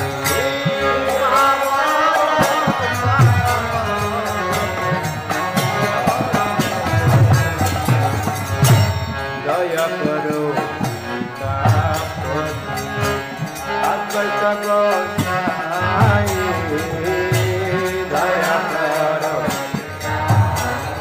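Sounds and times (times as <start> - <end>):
voices singing: 0.0 - 21.0.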